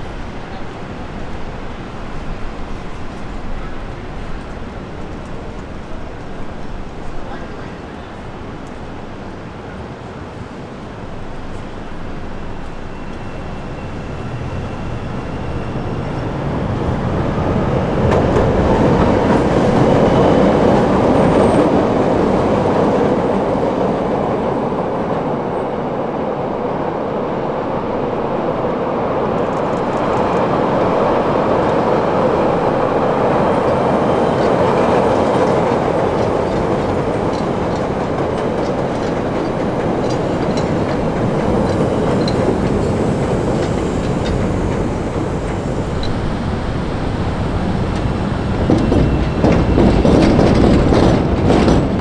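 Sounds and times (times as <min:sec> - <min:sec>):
train rolling on elevated steel track: 0:00.0 - 0:52.0.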